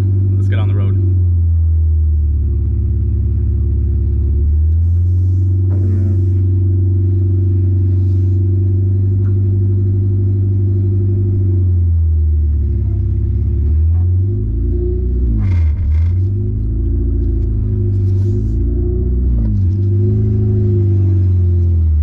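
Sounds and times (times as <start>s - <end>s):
car engine drone from inside cabin: 0.0s - 22.0s.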